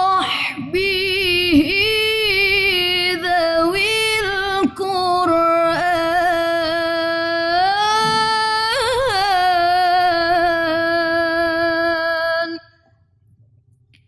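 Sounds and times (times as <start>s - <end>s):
woman chanting devotional song: 0.0s - 12.8s.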